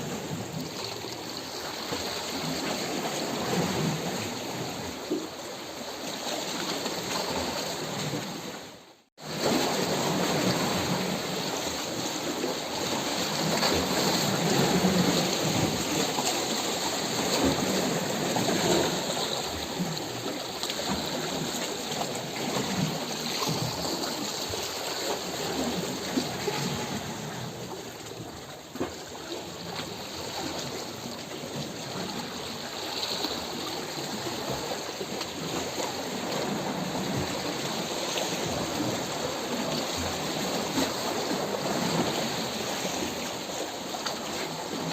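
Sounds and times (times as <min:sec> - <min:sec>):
rushing water with splashes: 0:00.0 - 0:44.9.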